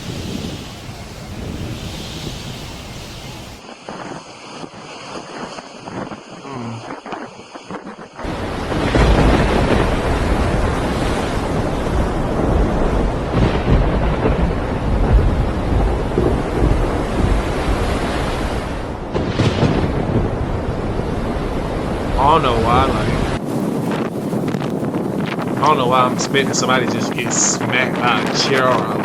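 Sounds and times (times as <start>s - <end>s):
wind and rain buffeting microphone: 0.0s - 29.0s.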